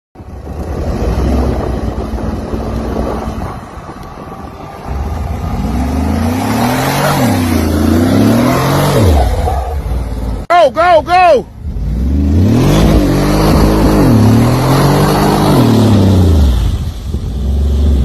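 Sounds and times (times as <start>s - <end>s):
car engine revving: 0.4s - 10.5s, 11.5s - 18.0s.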